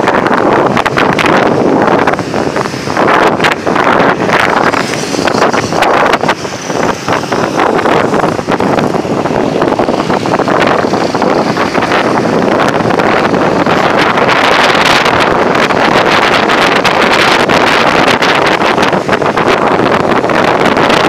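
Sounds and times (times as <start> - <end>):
motorbike engines: 0.0 - 21.0
road traffic: 0.0 - 21.0
wind buffeting microphone: 0.0 - 21.0.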